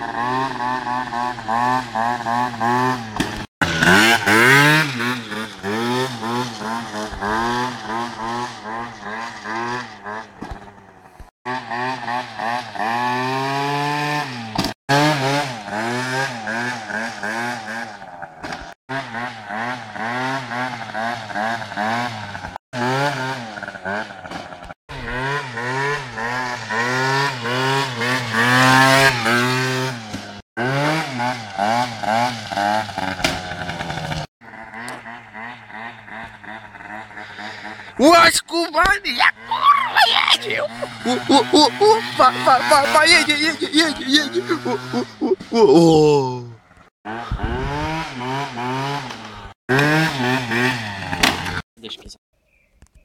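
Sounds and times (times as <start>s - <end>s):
scooter engine revving: 0.0s - 51.6s.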